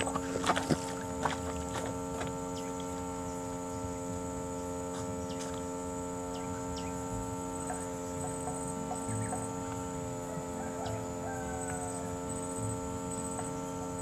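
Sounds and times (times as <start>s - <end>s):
steady droning hum: 0.0s - 14.0s.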